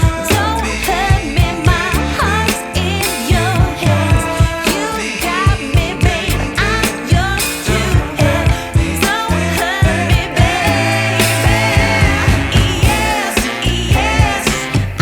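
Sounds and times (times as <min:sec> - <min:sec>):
drum beat and bass: 0:00.0 - 0:15.0
woman singing pop song: 0:00.0 - 0:15.0.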